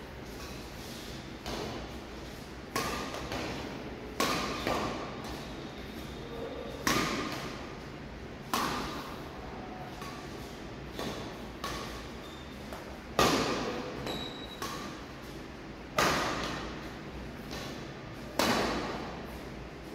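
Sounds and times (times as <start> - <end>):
racket hitting shuttlecock: 0.2 - 2.0, 2.7 - 5.5, 6.8 - 7.8, 8.4 - 19.4.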